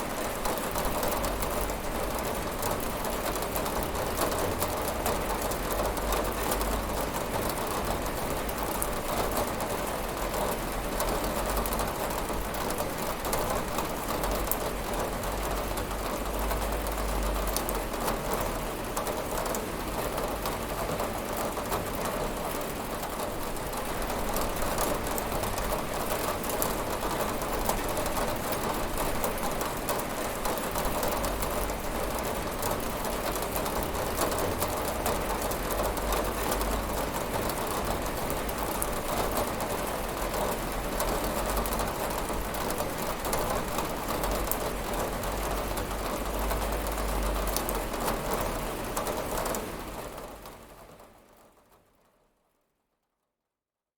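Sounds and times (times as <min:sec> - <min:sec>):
rain pattering on a window: 0:00.0 - 0:52.6.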